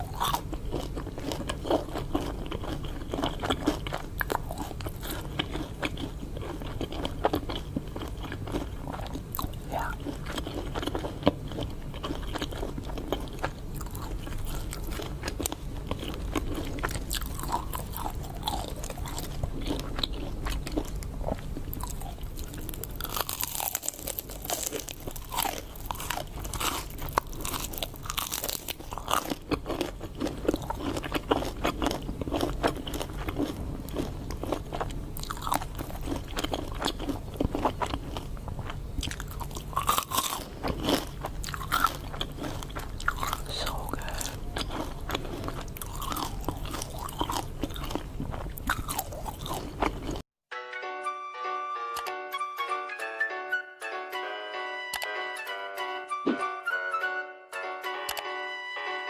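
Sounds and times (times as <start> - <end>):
steady low hum: 0.0 - 50.2
person chewing crunchy food: 0.0 - 50.3.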